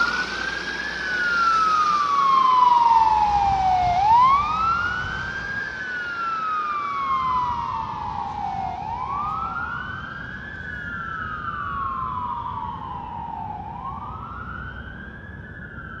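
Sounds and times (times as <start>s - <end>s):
fire engine siren wailing: 0.0s - 16.0s
low engine rumble: 0.0s - 16.0s.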